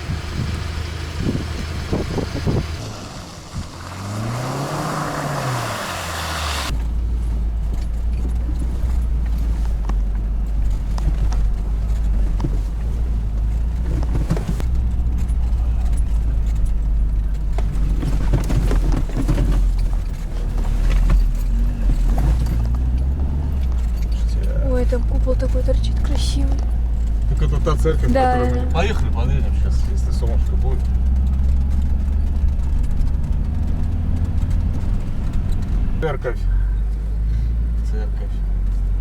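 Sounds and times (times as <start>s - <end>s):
vehicle engine and road drone: 0.0s - 39.0s.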